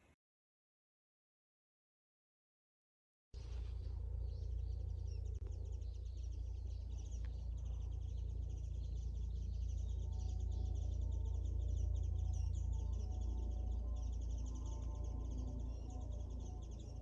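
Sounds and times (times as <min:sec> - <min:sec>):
low rumble: 0:03.4 - 0:17.0
small birds chirping: 0:03.4 - 0:17.0.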